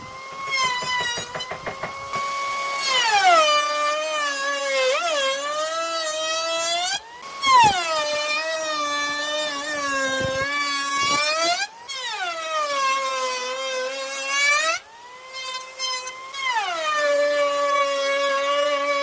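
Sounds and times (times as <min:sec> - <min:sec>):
woodworking power tool whine: 0:00.0 - 0:19.0.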